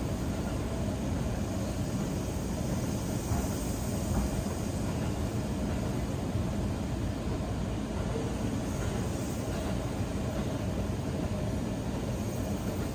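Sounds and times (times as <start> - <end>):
train rumble inside carriage: 0.0 - 12.9.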